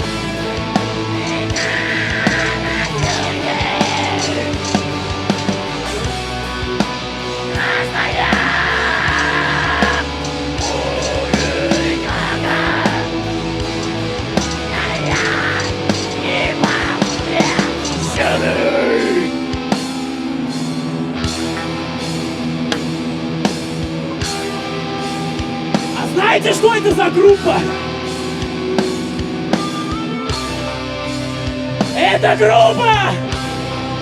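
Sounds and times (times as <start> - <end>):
heavy metal band playing live: 0.0 - 34.0
rock vocals: 0.0 - 34.0.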